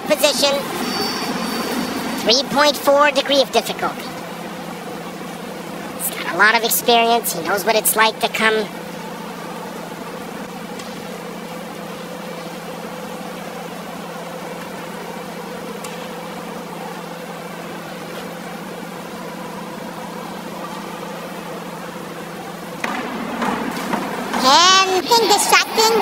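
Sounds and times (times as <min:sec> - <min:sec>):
indoor pool hall hum: 0:00.0 - 0:26.0.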